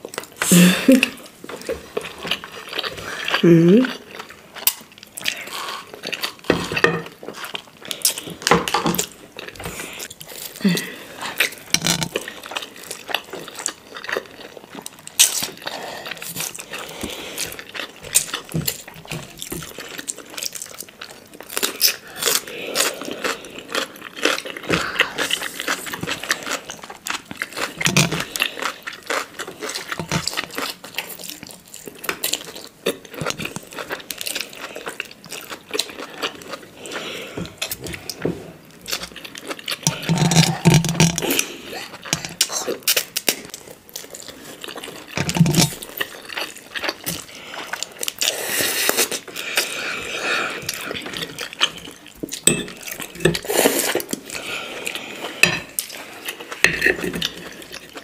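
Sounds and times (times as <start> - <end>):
people slurping and chewing noodles: 0.0 - 58.0.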